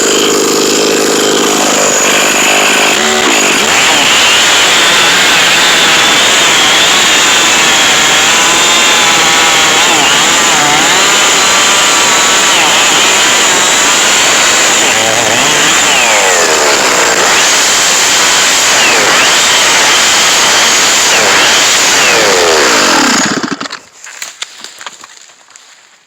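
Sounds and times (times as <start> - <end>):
chainsaw cutting at high revs: 0.0 - 23.9.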